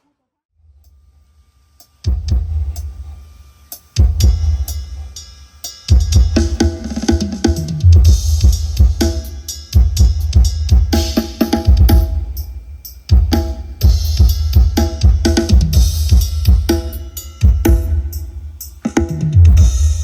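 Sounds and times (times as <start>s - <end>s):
drum-heavy music through subwoofer: 0.6s - 20.0s
booming kick drum and bass: 2.0s - 20.0s.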